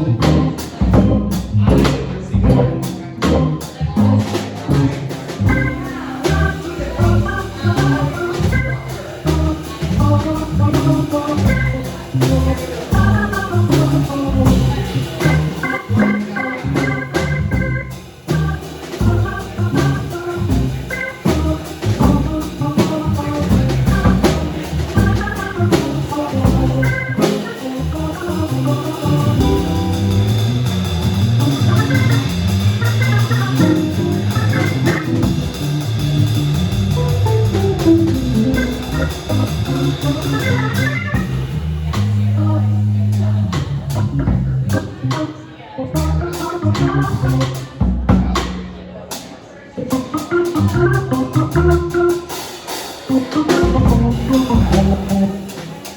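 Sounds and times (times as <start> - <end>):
band playing organ guitar drums: 0.0 - 55.9.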